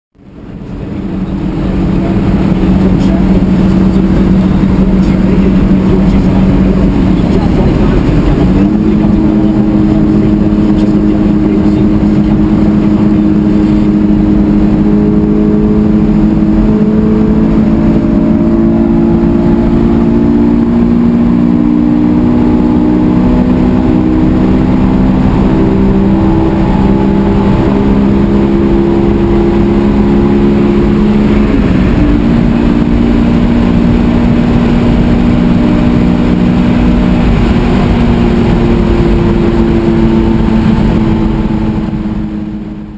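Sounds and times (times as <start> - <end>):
car engine and exhaust in tunnel: 0.1 - 42.9
road and wind noise: 0.1 - 42.9.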